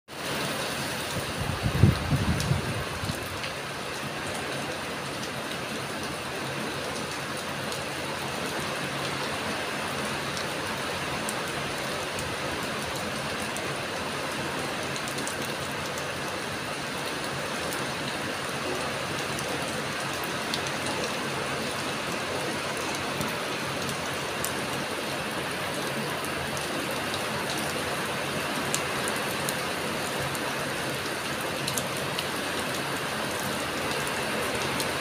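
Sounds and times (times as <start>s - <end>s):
heavy rain pouring: 0.1s - 35.0s.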